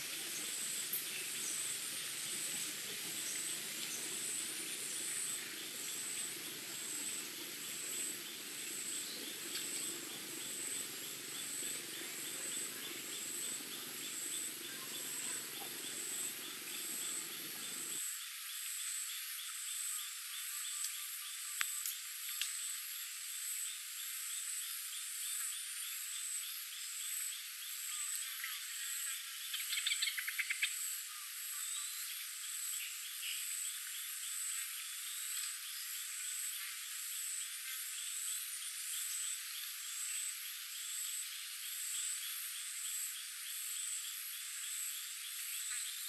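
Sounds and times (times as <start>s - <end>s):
high pulsing insect call: 0.0s - 46.0s
insects high chirring trill: 0.0s - 46.0s.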